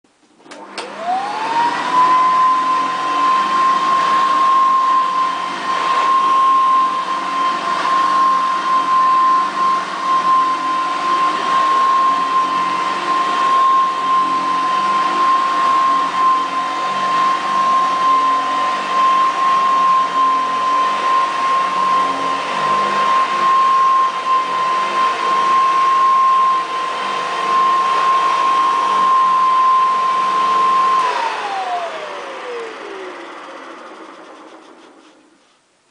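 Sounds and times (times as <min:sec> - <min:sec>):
vacuum cleaner motor whine: 0:00.4 - 0:35.6
vacuum pushed over carpet: 0:00.4 - 0:35.6.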